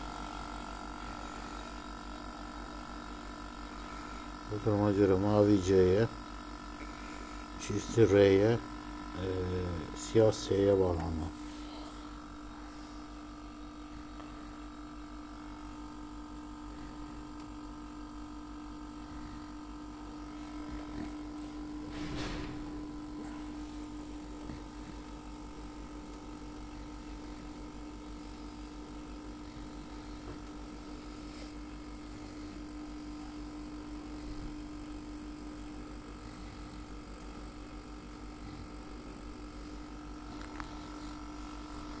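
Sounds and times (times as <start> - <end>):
compressor electric hum: 0.0 - 42.0.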